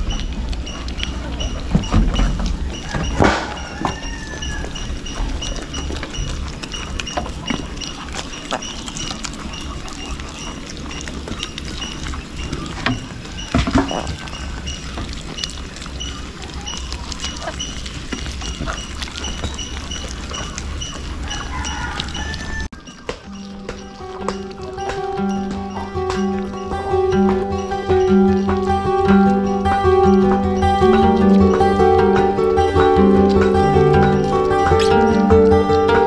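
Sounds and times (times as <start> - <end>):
goats chewing and rustling: 0.0 - 36.0
high chirping: 0.0 - 36.0.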